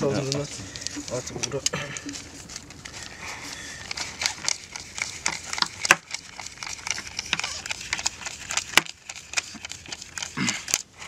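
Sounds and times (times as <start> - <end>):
banknotes rustling and snapping: 0.0 - 11.0.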